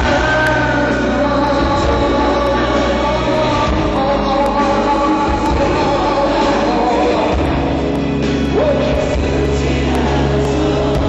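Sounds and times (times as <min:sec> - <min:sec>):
live band music over pa: 0:00.0 - 0:11.0.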